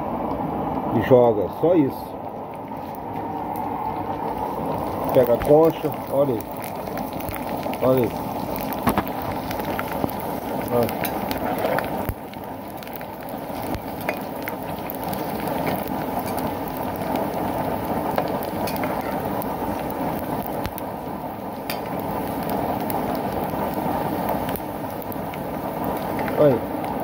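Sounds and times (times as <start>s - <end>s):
stove burner rushing: 0.9s - 27.0s
pork rinds sizzling in oil: 2.2s - 27.0s
sharp pops and crackles: 2.3s - 27.0s.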